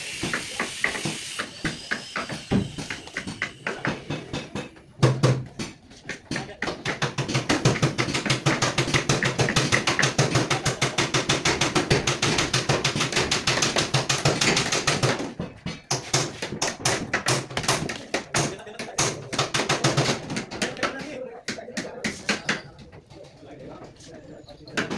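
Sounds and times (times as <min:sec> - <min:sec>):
rapid sharp tapping: 0:00.2 - 0:22.6.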